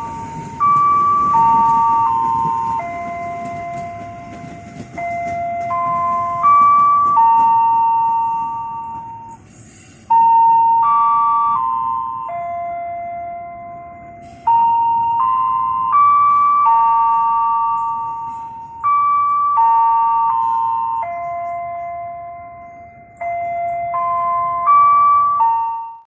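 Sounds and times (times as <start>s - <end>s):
bell-like loudspeaker chime: 0.0s - 9.5s, 10.1s - 26.0s.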